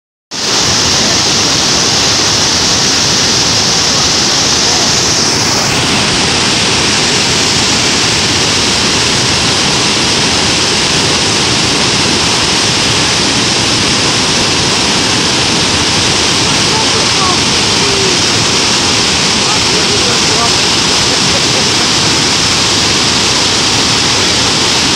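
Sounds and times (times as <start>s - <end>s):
waterfall rushing over rocks: 0.3s - 24.9s.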